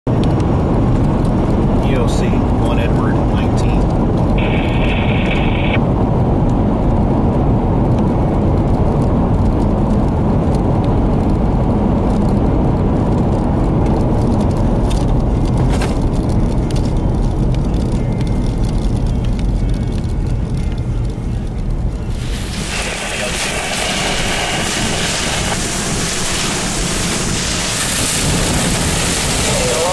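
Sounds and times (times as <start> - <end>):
storm wind gusting: 0.1 - 29.9.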